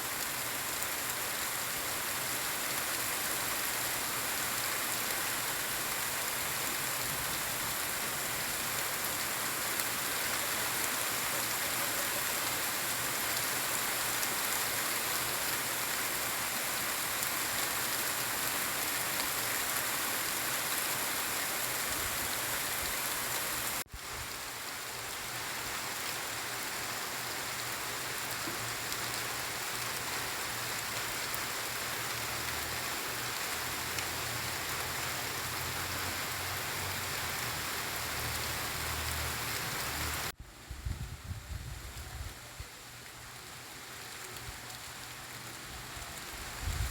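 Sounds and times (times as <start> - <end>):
steady rain pattering: 0.0 - 46.9.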